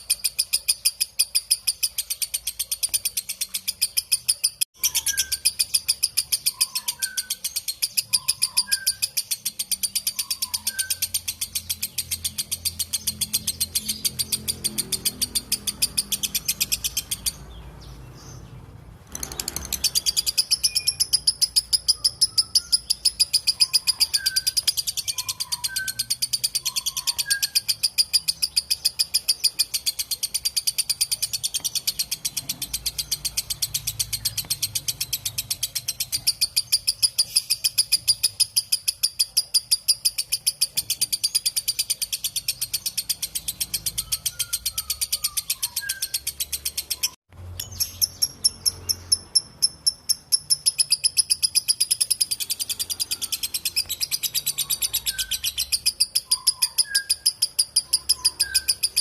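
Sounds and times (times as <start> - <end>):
lovebird chattering call: 0.0 - 59.0.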